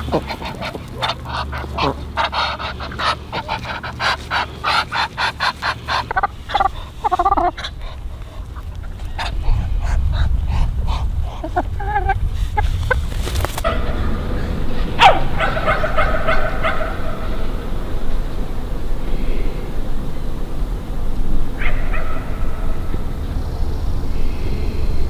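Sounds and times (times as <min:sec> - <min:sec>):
ducks and chickens calling: 0:00.0 - 0:24.8
low rumble: 0:00.0 - 0:25.0.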